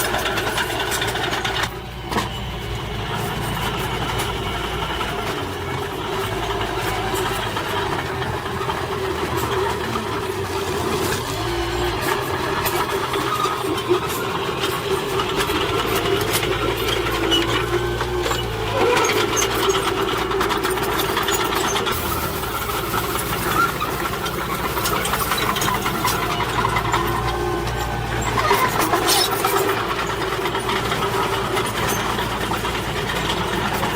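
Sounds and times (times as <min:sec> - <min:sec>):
diesel machinery droning: 0:00.0 - 0:33.9.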